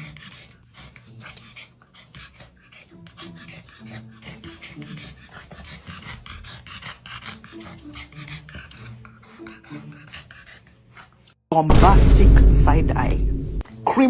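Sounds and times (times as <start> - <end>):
animal panting: 0.0 - 11.4.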